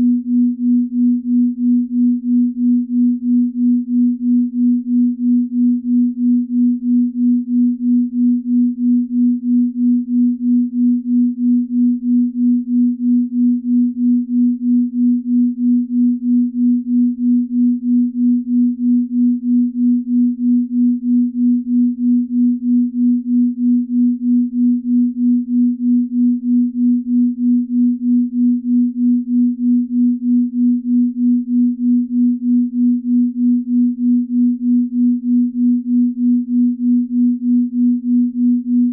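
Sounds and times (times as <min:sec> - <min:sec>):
pulsing pure sine tone: 0:00.0 - 0:38.9.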